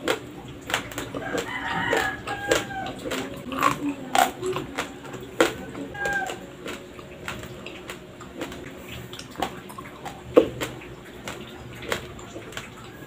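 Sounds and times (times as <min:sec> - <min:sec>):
chewing crunchy raw rice: 0:00.0 - 0:13.0.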